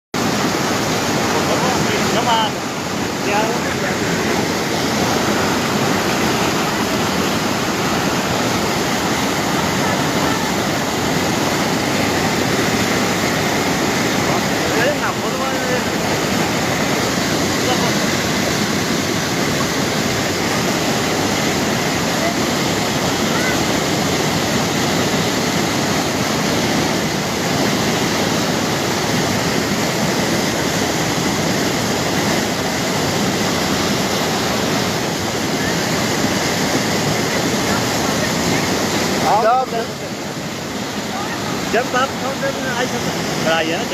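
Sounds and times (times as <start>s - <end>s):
floodwater rushing: 0.2s - 43.9s.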